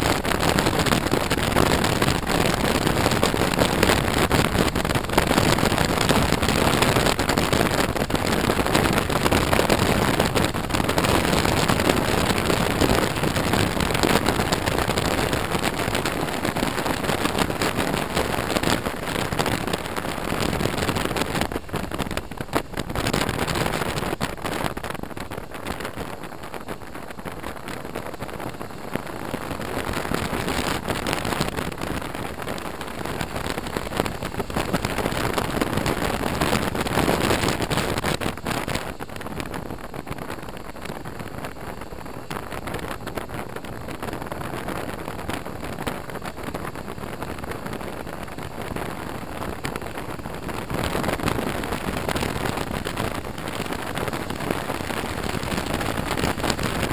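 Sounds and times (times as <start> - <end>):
motorcycle road noise: 0.0 - 56.9
wind rush buffeting camera: 0.0 - 56.9.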